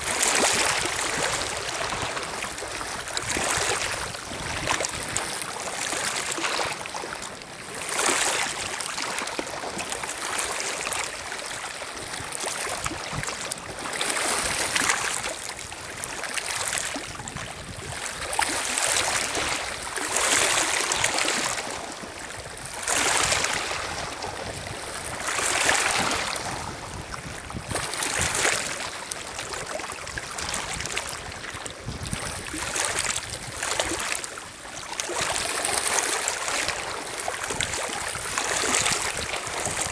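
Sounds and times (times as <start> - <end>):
waves lapping on stony shore: 0.0 - 39.9.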